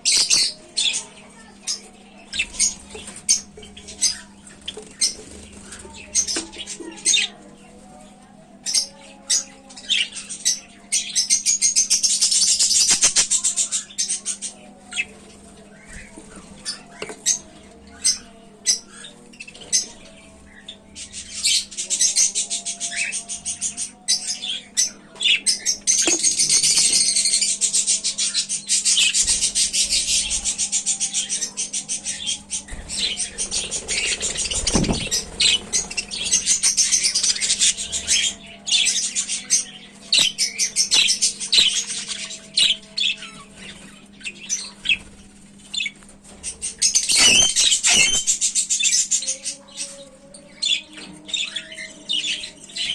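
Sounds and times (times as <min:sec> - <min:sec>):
bird chicks cheeping: 0:00.0 - 0:52.9.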